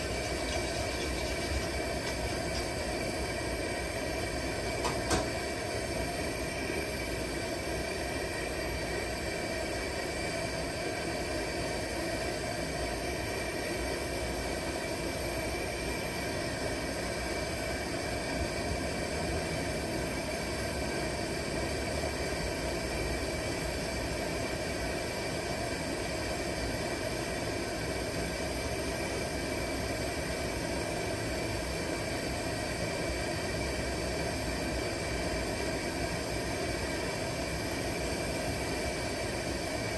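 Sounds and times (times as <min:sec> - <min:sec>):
camp stove burner hissing: 0:00.0 - 0:39.9.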